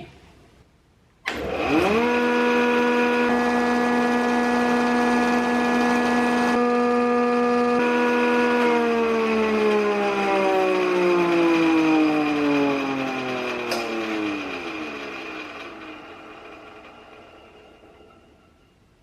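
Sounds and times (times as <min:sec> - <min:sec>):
planer motor whine: 0:01.3 - 0:18.3.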